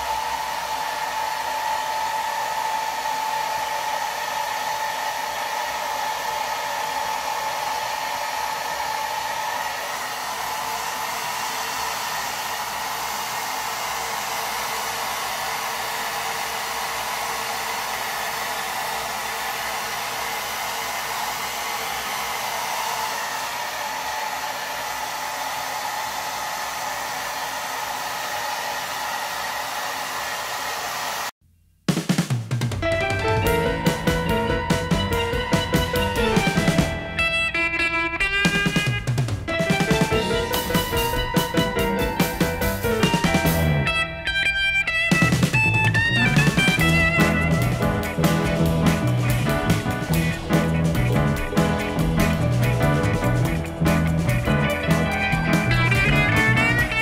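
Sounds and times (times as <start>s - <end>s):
hair dryer running: 0.0s - 31.4s, 32.9s - 37.4s, 38.4s - 57.0s.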